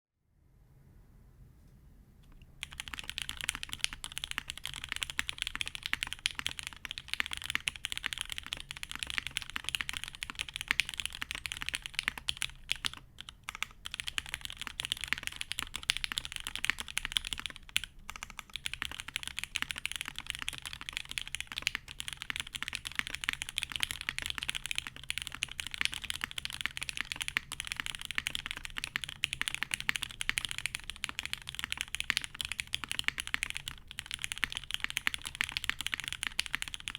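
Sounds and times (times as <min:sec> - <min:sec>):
mechanical keyboard typing: 0:02.3 - 0:36.9.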